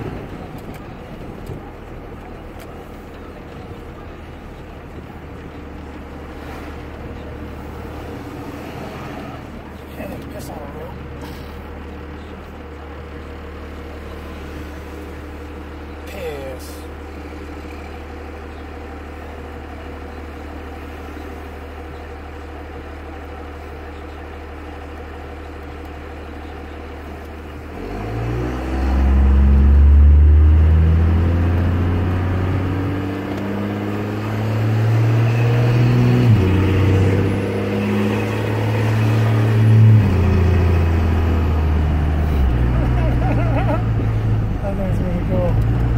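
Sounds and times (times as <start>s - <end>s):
diesel truck engine revving: 0.0s - 45.9s.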